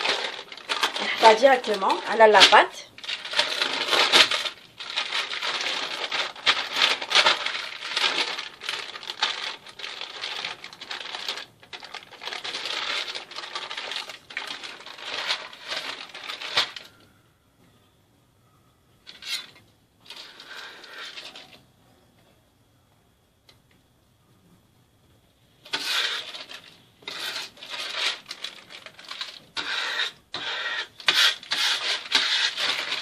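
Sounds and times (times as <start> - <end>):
paper wrapper rustling: 0.0 - 17.0, 19.1 - 21.6, 25.7 - 33.0.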